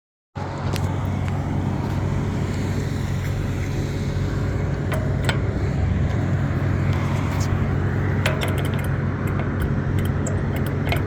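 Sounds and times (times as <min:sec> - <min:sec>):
road traffic humming: 0:00.4 - 0:11.0.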